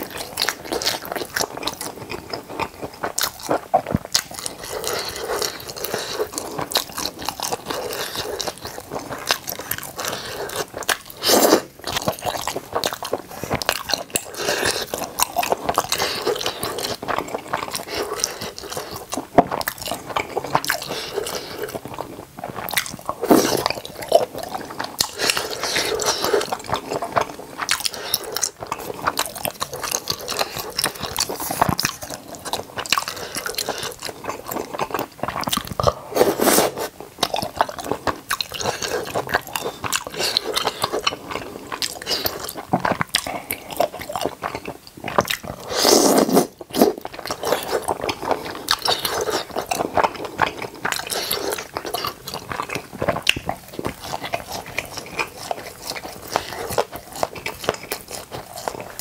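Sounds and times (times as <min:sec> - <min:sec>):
wet chewing and biting: 0:00.0 - 0:59.0.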